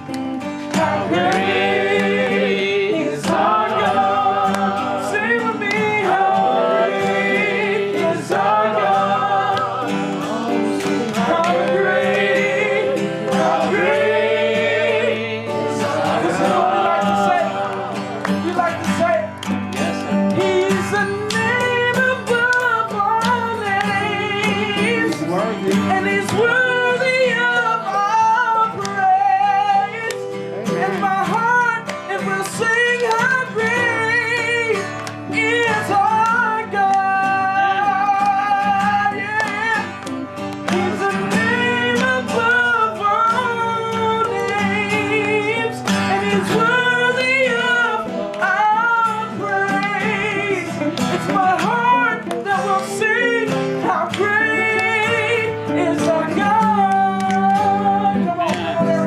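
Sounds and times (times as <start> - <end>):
guitar accompaniment: 0.0 - 59.0
person singing with vibrato: 0.0 - 59.0.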